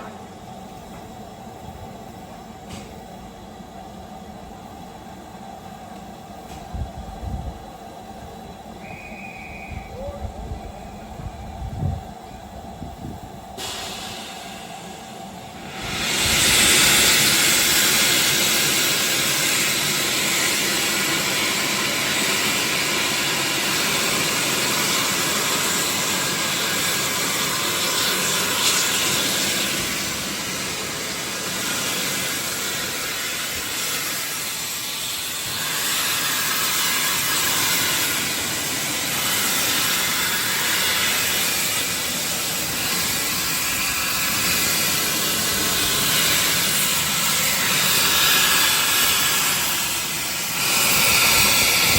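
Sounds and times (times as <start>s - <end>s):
steam locomotive hissing: 0.0s - 51.9s.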